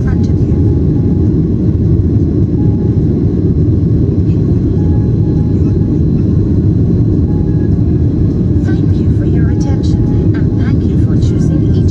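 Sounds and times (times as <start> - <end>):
airliner cabin engine rumble: 0.0 - 11.9.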